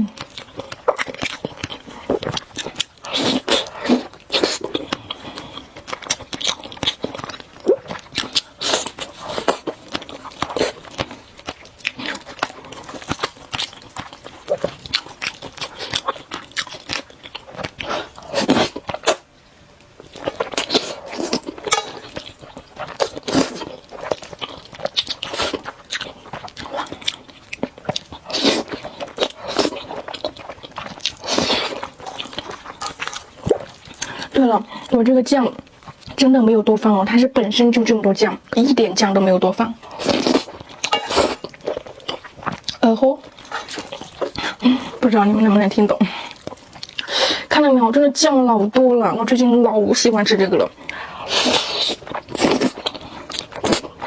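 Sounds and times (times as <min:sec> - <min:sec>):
person chewing noodles: 0:00.0 - 0:34.9, 0:39.8 - 0:45.1, 0:46.1 - 0:47.5, 0:50.7 - 0:54.0.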